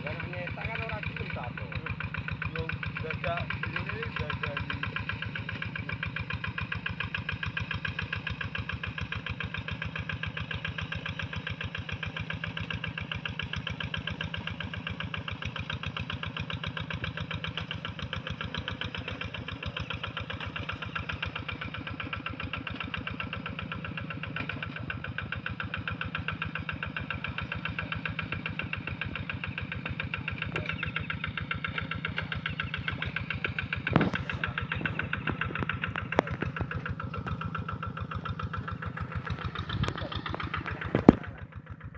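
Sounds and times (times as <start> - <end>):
tractor engine chugging: 0.0 - 41.9.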